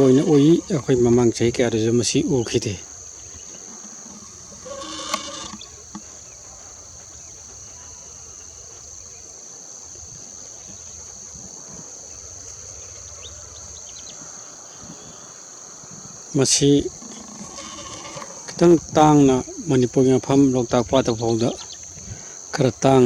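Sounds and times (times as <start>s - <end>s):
insect chorus droning: 0.0s - 23.0s.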